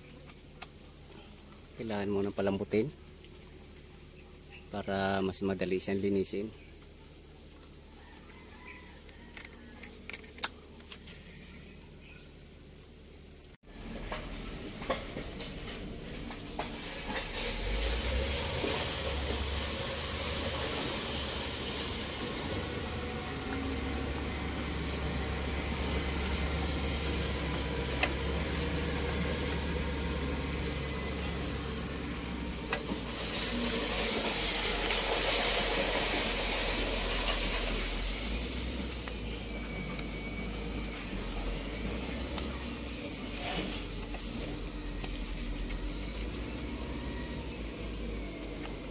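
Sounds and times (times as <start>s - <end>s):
low steady rumble: 0.0s - 48.9s.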